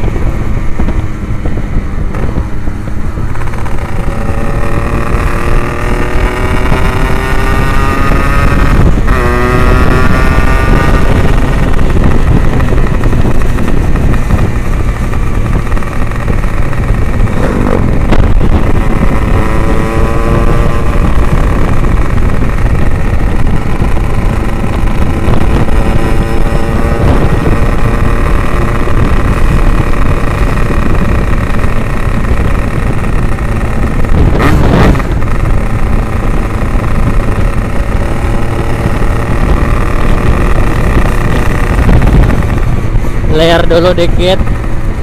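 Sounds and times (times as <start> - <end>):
two-stroke motorcycle engine: 0.0 - 45.0
wind on microphone: 0.0 - 45.0.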